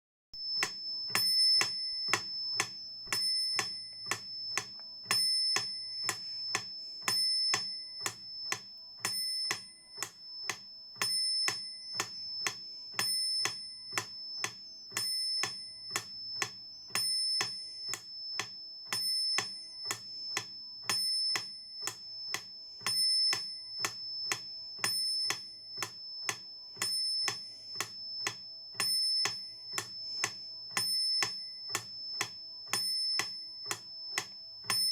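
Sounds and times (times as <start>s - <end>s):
metronome clicking: 0.6s - 34.9s.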